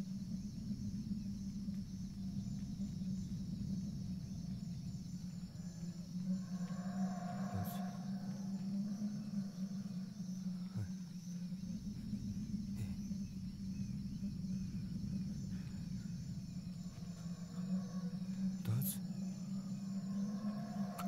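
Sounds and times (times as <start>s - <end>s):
insects buzzing: 0.0s - 21.0s
steady low hum: 0.0s - 21.0s.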